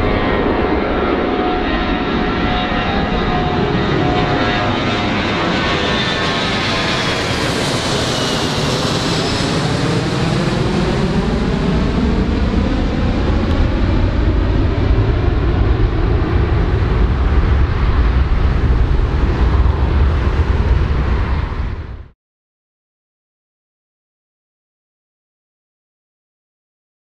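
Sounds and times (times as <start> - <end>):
deep rumble: 0.0 - 22.2
high jet whine: 0.0 - 22.2
jet engines roaring: 0.0 - 22.2.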